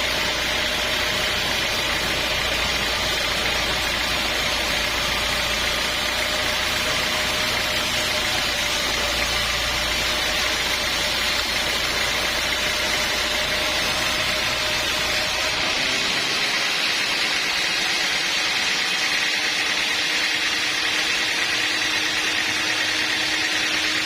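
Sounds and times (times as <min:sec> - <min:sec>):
sawmill machinery hum: 0:00.0 - 0:24.0.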